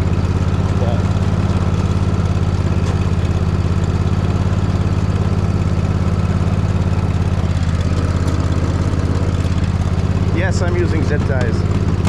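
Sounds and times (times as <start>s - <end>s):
riding mower engine humming: 0.0s - 12.0s.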